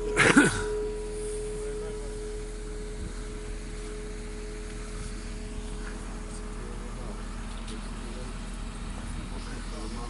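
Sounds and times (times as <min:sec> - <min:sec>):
church bell ringing: 0:00.0 - 0:08.6
low background rumble: 0:00.0 - 0:10.0.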